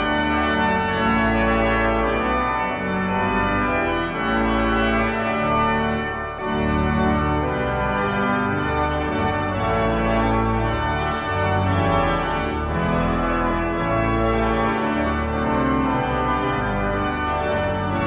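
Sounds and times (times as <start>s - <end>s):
pipe organ playing chords: 0.0s - 18.0s.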